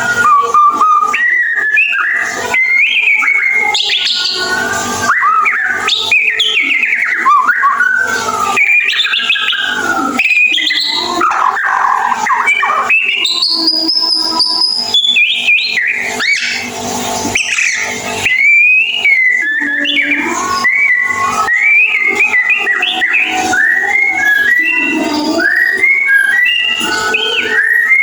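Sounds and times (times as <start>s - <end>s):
bird singing whistled notes: 0.0s - 28.0s.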